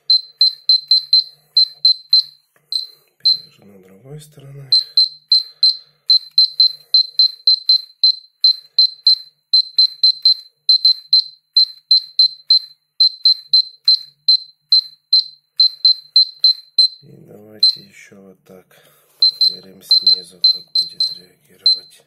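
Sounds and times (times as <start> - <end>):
dosimeter chirping beeps: 0.0 - 3.6, 4.6 - 17.9, 19.2 - 22.0.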